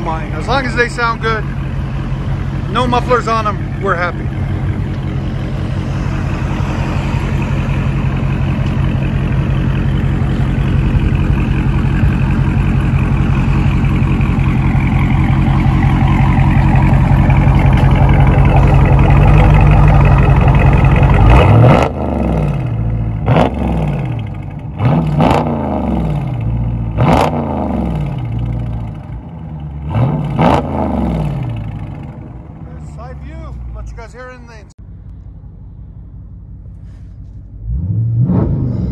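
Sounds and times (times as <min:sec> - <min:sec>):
car engine exhaust: 0:00.0 - 0:38.9
engine throttle blips: 0:00.0 - 0:38.9.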